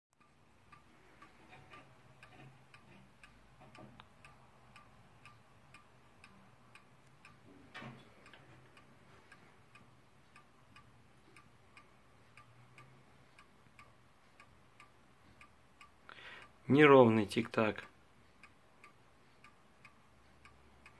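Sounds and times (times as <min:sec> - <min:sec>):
faint wall clock ticking: 0:00.2 - 0:20.9.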